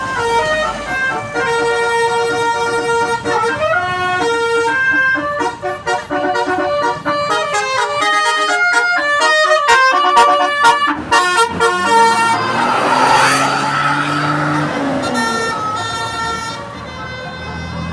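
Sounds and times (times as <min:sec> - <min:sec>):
multi-tone musical horn melody: 0:00.0 - 0:17.9.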